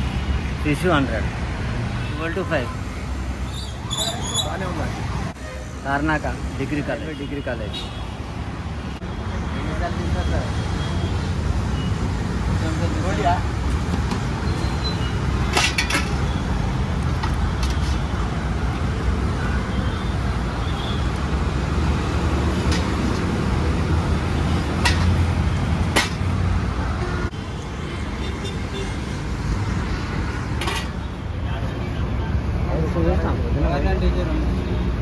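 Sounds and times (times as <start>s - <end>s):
roadside traffic rumble: 0.0s - 35.0s.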